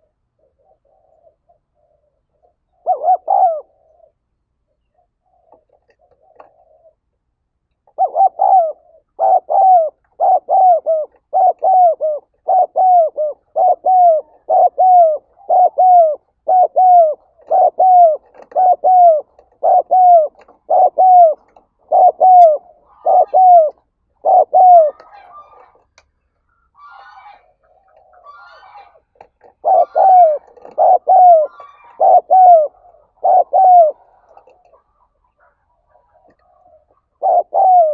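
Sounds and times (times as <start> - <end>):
dove cooing: 0.0 - 7.1, 7.8 - 25.8, 26.8 - 37.9.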